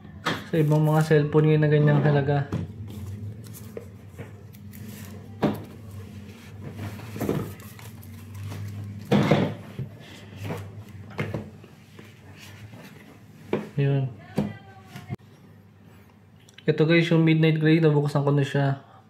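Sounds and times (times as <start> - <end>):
low steady hum: 0.0 - 16.7.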